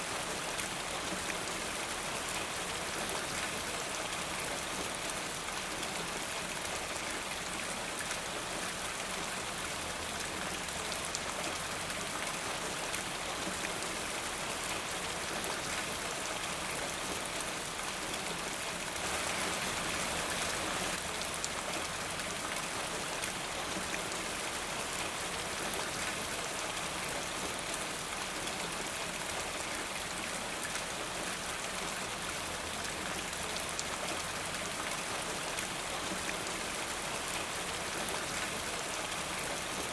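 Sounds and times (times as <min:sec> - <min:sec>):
steady rain falling: 0:00.0 - 0:39.9
raindrops pattering on a surface: 0:00.2 - 0:39.9.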